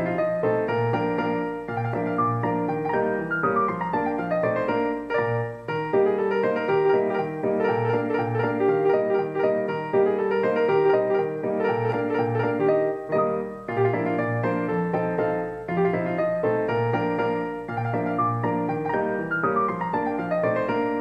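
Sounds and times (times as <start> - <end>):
solo piano piece: 0.0 - 21.0.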